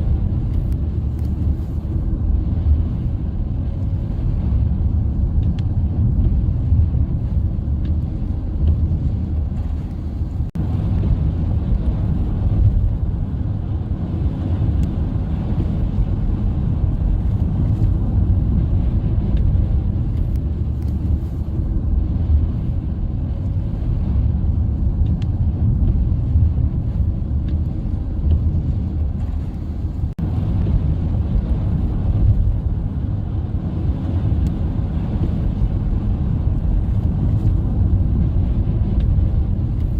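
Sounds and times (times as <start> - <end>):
moving car rumble: 0.0 - 39.9.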